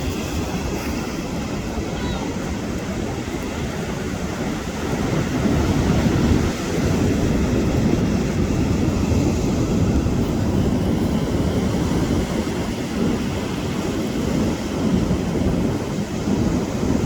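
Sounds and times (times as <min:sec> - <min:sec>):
sea surf: 0:00.0 - 0:17.0
wind on microphone: 0:00.0 - 0:17.0.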